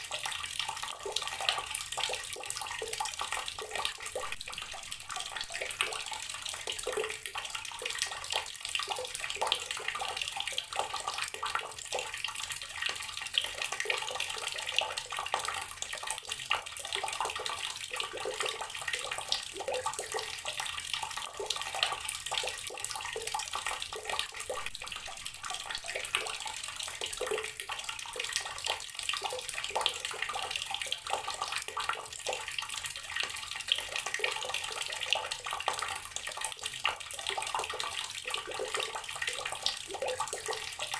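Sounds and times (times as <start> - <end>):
water running from a tap: 0.0 - 40.9.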